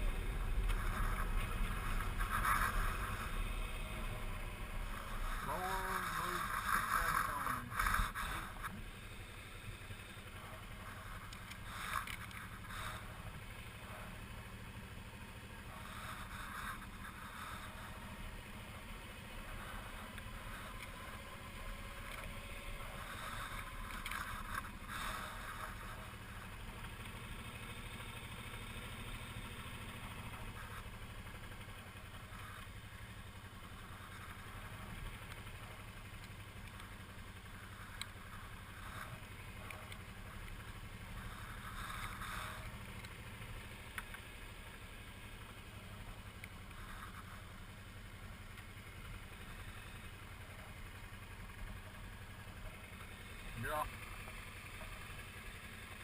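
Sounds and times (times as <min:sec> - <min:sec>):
motorcycle engine drone: 0:00.0 - 0:56.0.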